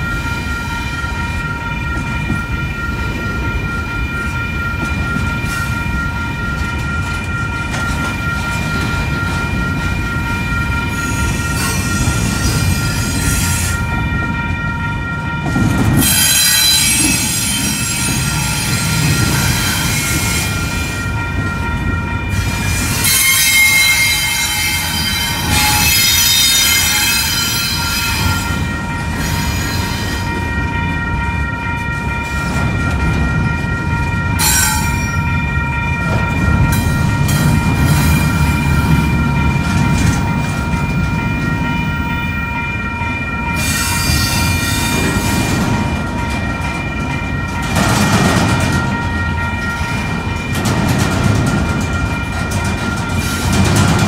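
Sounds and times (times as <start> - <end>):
crossing bell ringing: 0.0 - 54.0
freight train rumbling past: 0.0 - 54.0.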